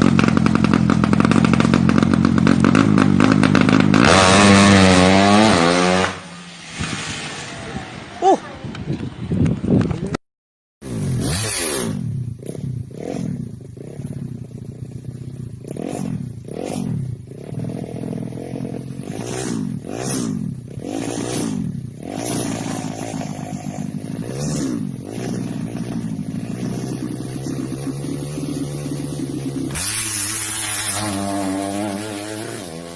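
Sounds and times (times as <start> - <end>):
motorcycle engine revving: 0.0 - 10.2, 10.8 - 32.9.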